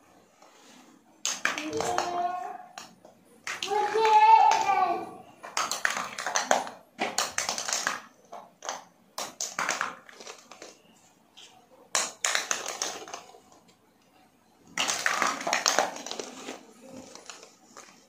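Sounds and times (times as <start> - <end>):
plastic balls bouncing on hard floor: 1.2 - 13.8, 14.6 - 18.0.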